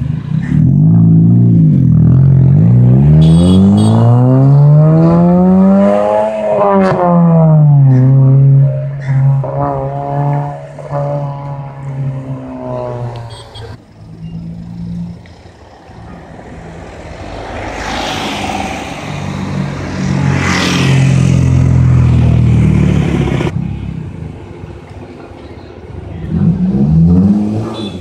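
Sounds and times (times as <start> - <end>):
car engine revving: 0.0 - 24.0, 26.2 - 28.0.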